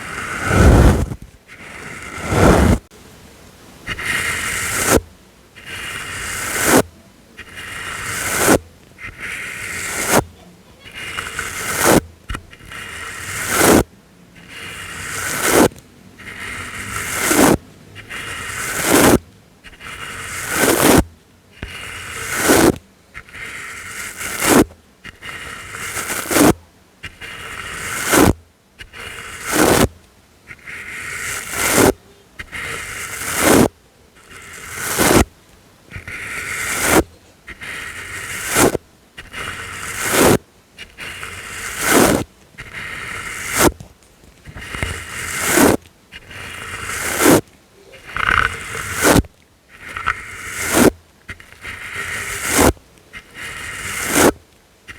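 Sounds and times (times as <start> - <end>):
brush strokes swishing: 0.0 - 2.9, 3.9 - 35.3, 35.9 - 54.9.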